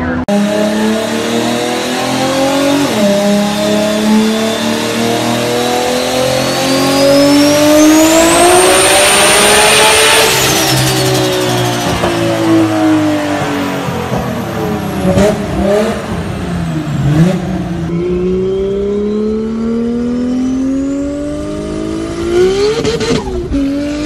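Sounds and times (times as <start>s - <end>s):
high whine: 0.0s - 15.2s, 15.9s - 24.0s
car engine at full throttle: 0.0s - 24.0s.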